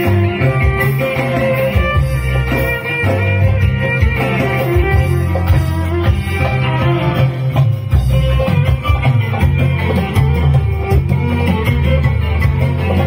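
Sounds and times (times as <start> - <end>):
plucked guitar: 0.0 - 13.0
steady bass line: 0.0 - 13.0.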